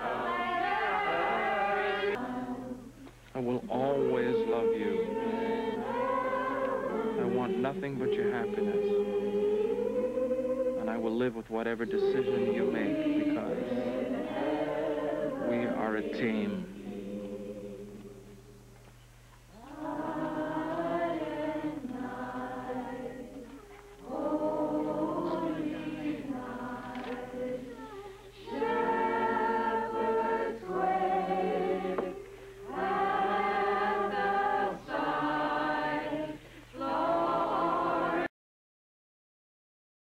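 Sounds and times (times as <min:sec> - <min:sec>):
group singing a carol: 0:00.0 - 0:18.6, 0:19.5 - 0:38.3.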